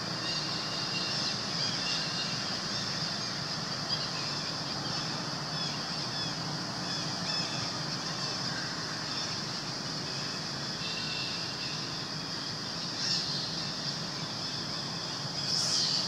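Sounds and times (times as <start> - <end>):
steady high-pitched hiss: 0.0 - 16.0.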